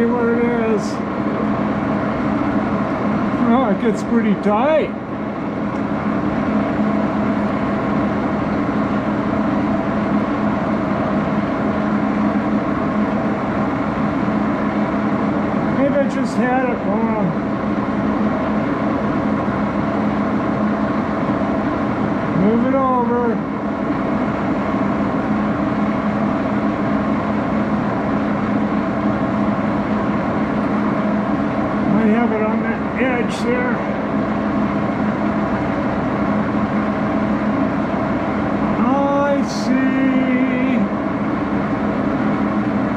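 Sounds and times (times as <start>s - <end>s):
lathe running: 0.0s - 42.9s.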